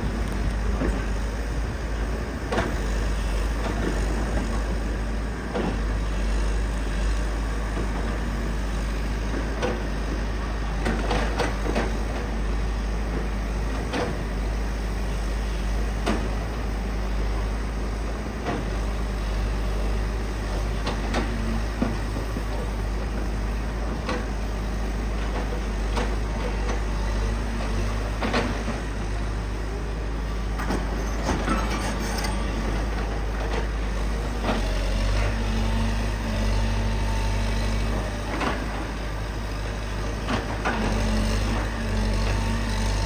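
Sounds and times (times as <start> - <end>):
excavator engine rumbling: 0.0 - 43.0.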